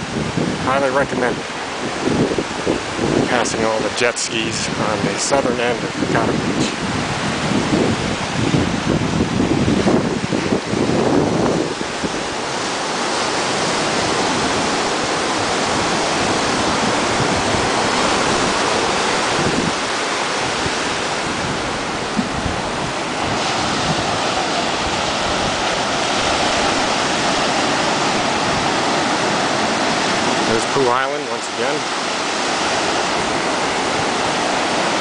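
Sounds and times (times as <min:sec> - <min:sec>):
waves breaking on a beach: 0:00.0 - 0:35.0.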